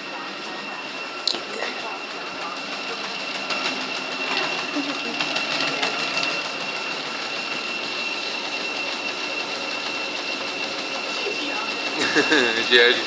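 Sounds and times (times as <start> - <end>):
dog's feet on treadmill belt: 0.0 - 13.0
treadmill belt hum: 0.0 - 13.0
treadmill motor whine: 0.0 - 13.0.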